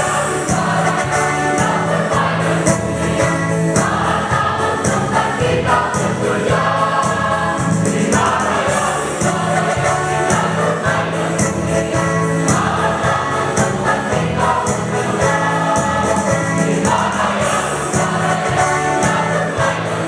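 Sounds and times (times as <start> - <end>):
instrumental accompaniment: 0.0 - 20.0
mixed choir singing a march: 0.0 - 20.0.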